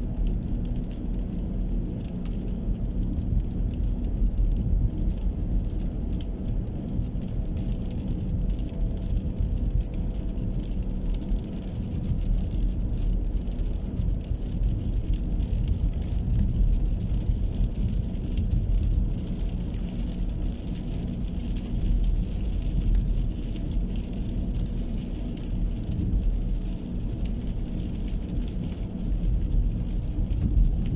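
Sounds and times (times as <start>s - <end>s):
constant low rumble: 0.0s - 30.9s
rain hiss: 4.6s - 30.9s.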